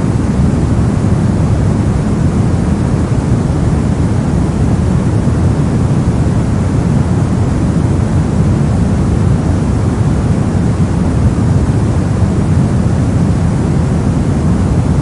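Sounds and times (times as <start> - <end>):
brown noise rushing hiss: 0.0 - 15.0.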